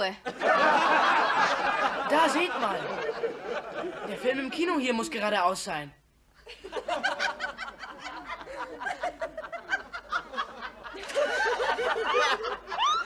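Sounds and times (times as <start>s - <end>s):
crowd laughing: 0.3s - 4.6s, 6.4s - 13.0s.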